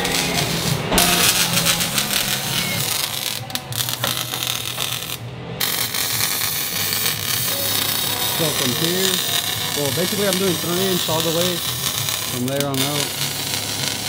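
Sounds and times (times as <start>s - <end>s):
welding arc crackling hiss: 0.0s - 14.0s.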